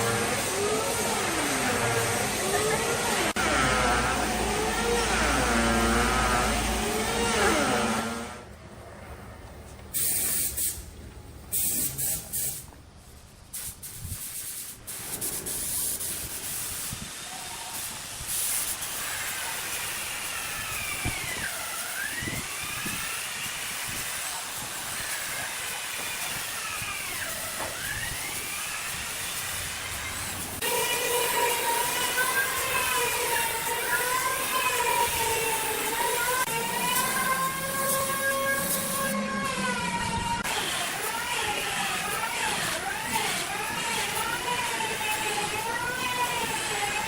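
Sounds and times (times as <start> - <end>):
compressed air hissing: 0.0 - 3.4, 9.9 - 12.7, 13.4 - 39.2, 40.4 - 47.0.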